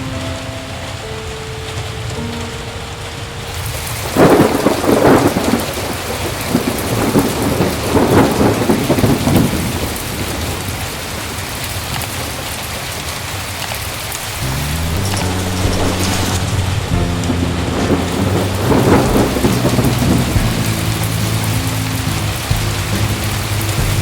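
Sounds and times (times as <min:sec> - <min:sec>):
thunder rumbling: 0:00.0 - 0:12.5, 0:13.9 - 0:24.0
heavy rain falling: 0:00.0 - 0:24.0.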